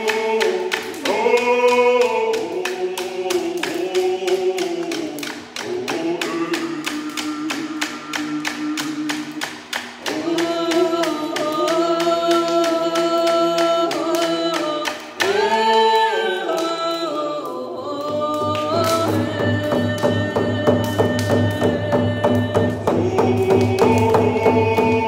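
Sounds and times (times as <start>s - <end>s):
hand drums beating: 0.0s - 17.0s, 18.0s - 25.0s
group singing in unison: 0.0s - 25.0s.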